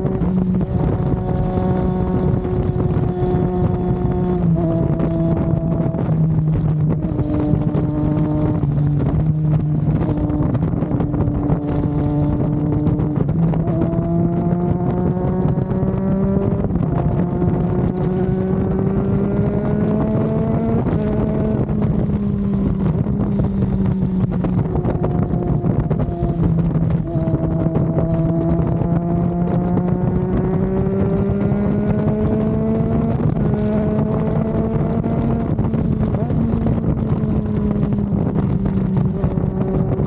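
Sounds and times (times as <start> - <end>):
motorcycle engine accelerating: 0.0 - 40.0
wind noise on microphone: 0.0 - 40.0.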